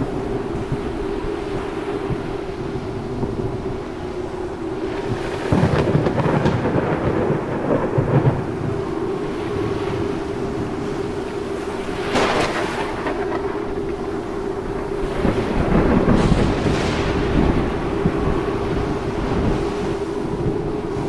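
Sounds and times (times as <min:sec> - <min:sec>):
rain: 0:00.0 - 0:21.0
thunder rolling: 0:00.0 - 0:21.0.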